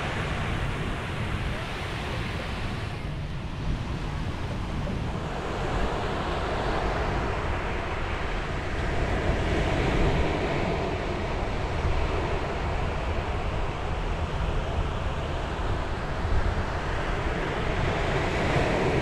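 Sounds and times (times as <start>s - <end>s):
steady low rumble: 0.0s - 18.3s
waves washing on beach: 0.0s - 19.0s.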